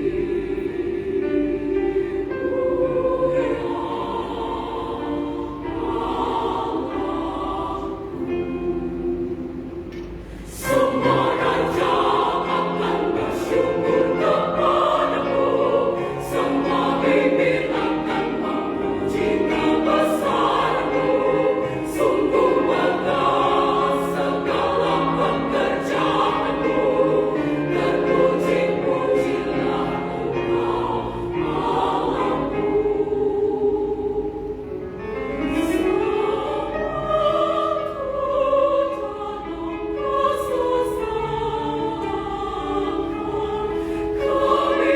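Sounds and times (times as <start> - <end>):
women's choir singing: 0.0 - 44.9.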